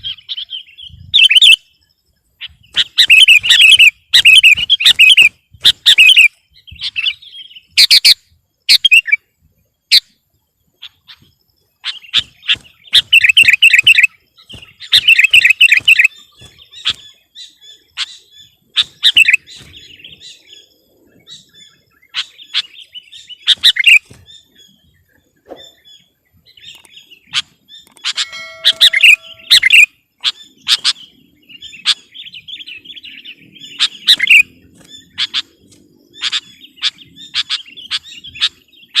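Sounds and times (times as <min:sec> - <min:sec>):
bird chirps and trills: 0:00.0 - 0:39.0.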